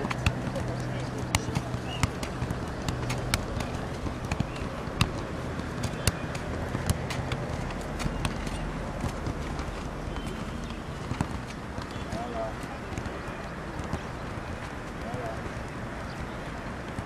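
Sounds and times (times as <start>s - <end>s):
football being headed: 0.0s - 15.8s
low outdoor rumble: 0.0s - 17.0s.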